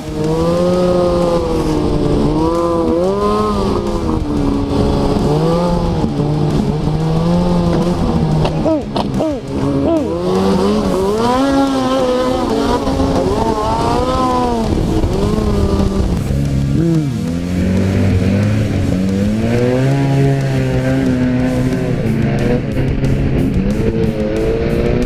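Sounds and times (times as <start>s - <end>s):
snowmobile engine revving: 0.0s - 25.0s.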